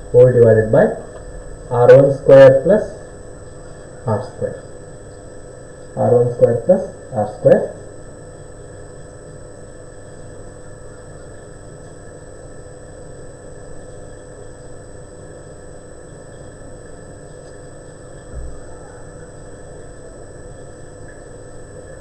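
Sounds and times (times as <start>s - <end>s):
low room tone hum and hiss: 0.0s - 22.0s.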